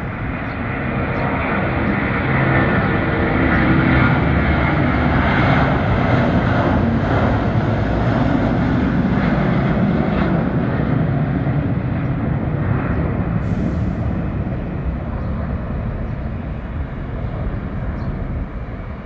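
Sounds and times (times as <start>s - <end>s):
jet plane taking off: 0.0s - 19.0s.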